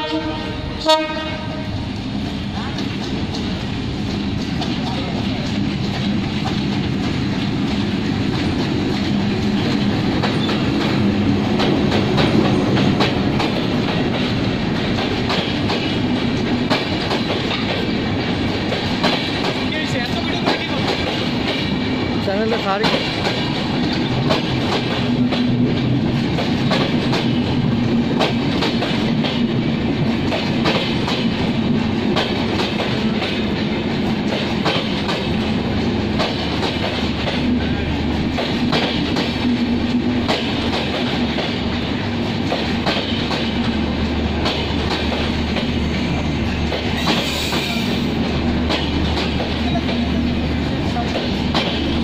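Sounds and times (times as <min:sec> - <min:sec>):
train wheels clattering over rails: 0:00.0 - 0:52.0.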